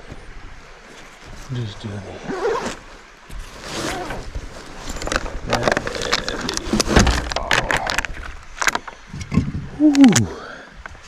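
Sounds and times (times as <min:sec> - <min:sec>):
rustling and scraping: 0:00.0 - 0:09.1.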